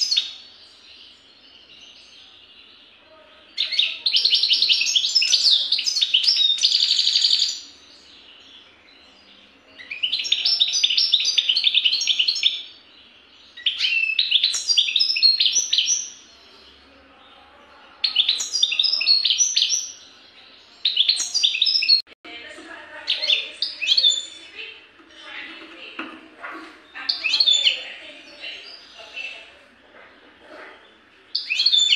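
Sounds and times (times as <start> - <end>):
bird twittering and trilling: 0.0 - 31.9.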